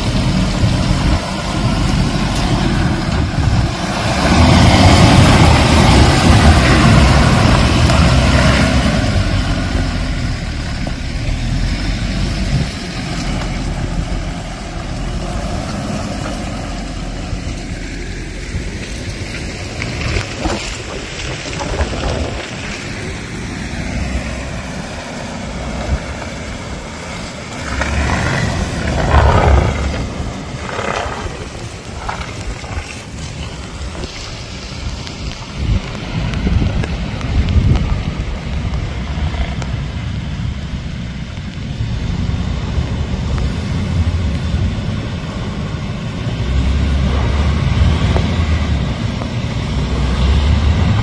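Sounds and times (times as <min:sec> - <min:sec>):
off-road vehicle engine under load: 0:00.0 - 0:51.0.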